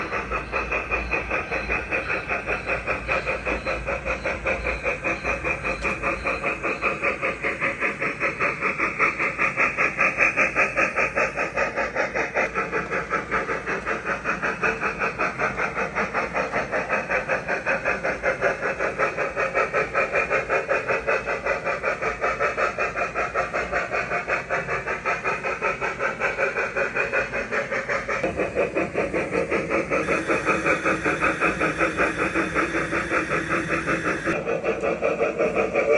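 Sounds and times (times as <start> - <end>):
steam engine chuffing from speaker: 0.0 - 35.9.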